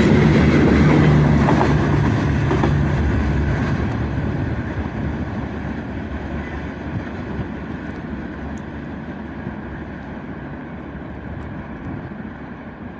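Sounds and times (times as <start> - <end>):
freight train rumbling past: 0.0 - 12.8.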